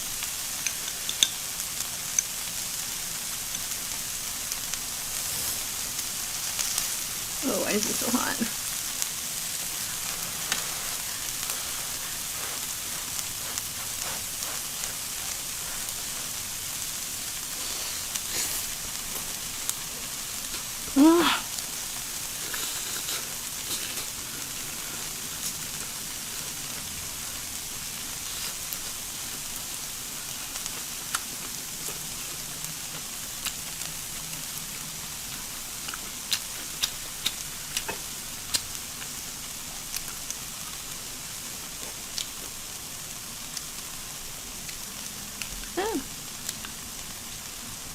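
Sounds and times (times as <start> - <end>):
food sizzling on a grill: 0.0 - 47.9.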